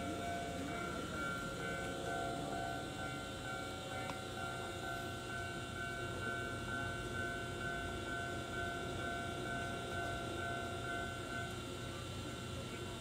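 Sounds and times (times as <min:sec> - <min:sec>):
warning bell ringing: 0:00.0 - 0:11.8
electric train rumbling: 0:00.0 - 0:13.0.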